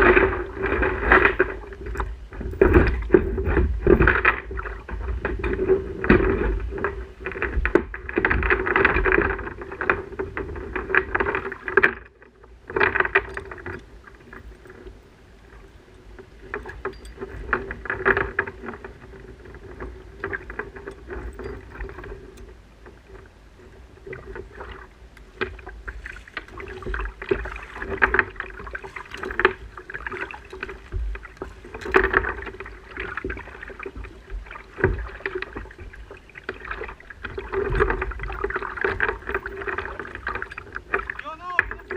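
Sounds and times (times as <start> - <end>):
water splashing against kayak hull: 0.0 - 41.9.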